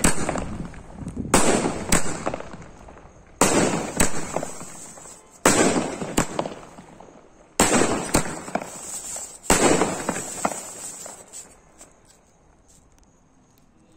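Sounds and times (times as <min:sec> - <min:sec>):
sharp crack: 0:00.0 - 0:07.0, 0:07.6 - 0:12.0
firework bangs: 0:00.0 - 0:11.6
firework crackle: 0:00.0 - 0:12.1.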